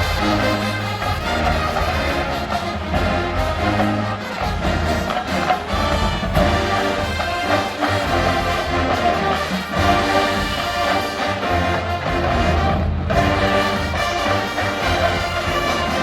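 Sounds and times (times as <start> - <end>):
brass: 0.0 - 16.0
marching band playing: 0.0 - 16.0.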